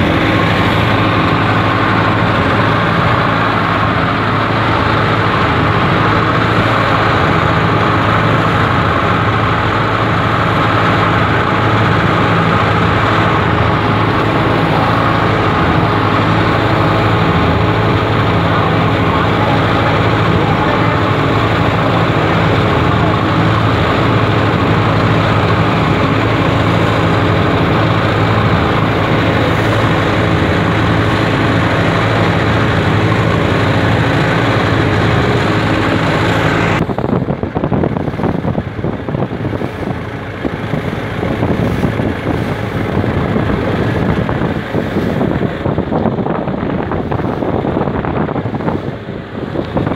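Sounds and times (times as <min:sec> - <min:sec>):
boat engine humming: 0:00.0 - 0:49.9
choppy sea water: 0:00.0 - 0:49.9
wind buffeting microphone: 0:00.0 - 0:49.9.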